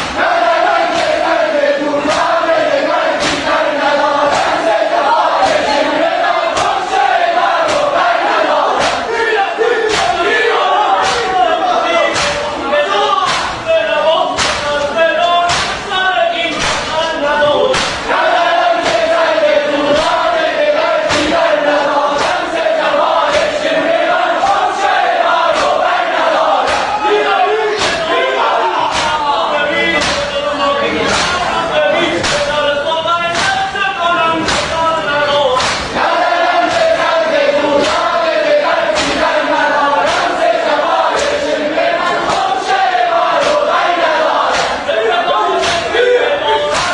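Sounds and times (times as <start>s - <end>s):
chest-beating slaps: 0.0s - 1.4s, 2.0s - 12.6s, 13.2s - 13.6s, 14.3s - 17.1s, 17.7s - 27.0s, 27.7s - 28.2s, 28.8s - 30.4s, 31.1s - 31.5s, 32.2s - 32.6s, 33.3s - 33.7s, 34.4s - 34.9s, 35.6s - 44.9s, 45.6s - 46.0s, 46.6s - 46.9s
crowd chanting in unison: 0.0s - 46.9s.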